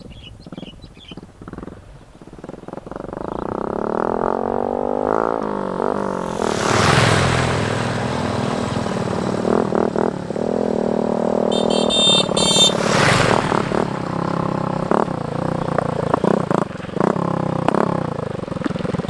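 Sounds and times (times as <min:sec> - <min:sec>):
small motorcycles passing by: 0:00.5 - 0:19.0.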